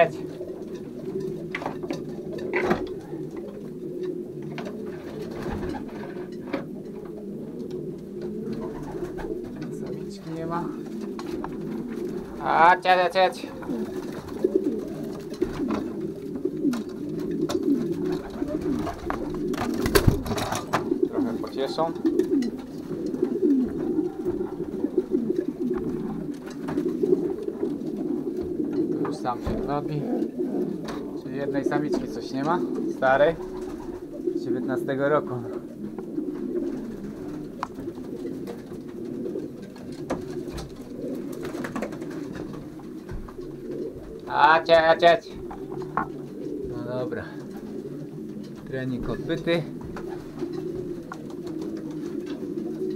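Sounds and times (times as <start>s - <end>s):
pigeons cooing: 0.0s - 52.9s.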